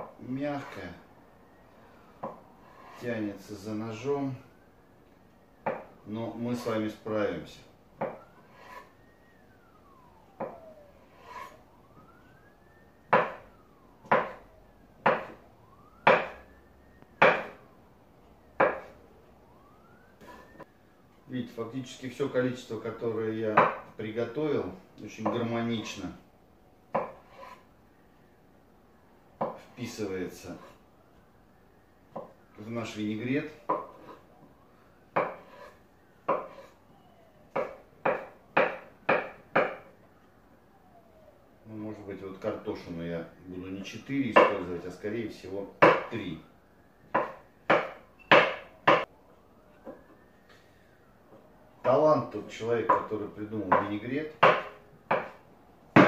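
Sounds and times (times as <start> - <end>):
faint siren: 0.0 - 56.0.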